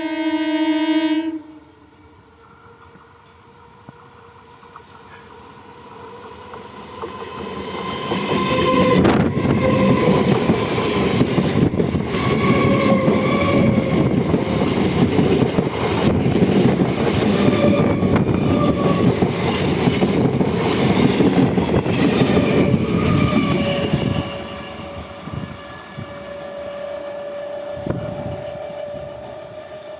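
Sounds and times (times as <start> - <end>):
electric train rumbling past: 0.0 - 29.9.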